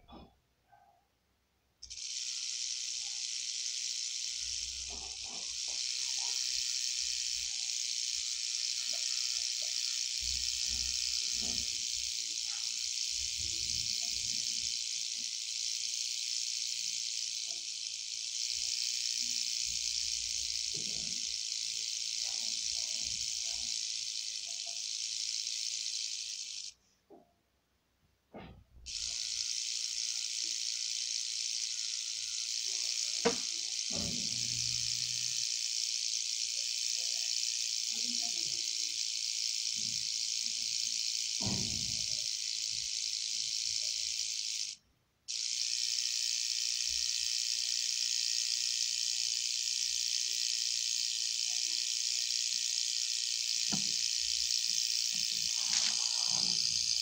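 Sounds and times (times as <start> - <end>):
rattlesnake rattle buzzing: 1.8 - 26.8, 28.4 - 57.0.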